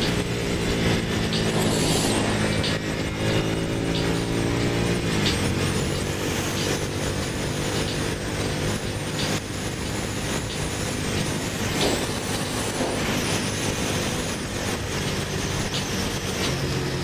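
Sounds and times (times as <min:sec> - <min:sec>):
heavy wind rush: 0:00.0 - 0:17.0
motorcycle engine running: 0:00.0 - 0:17.0.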